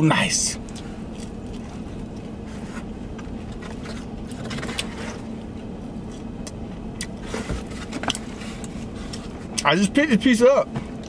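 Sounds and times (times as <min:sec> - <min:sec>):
man chewing crispy pizza: 0:00.2 - 0:09.6.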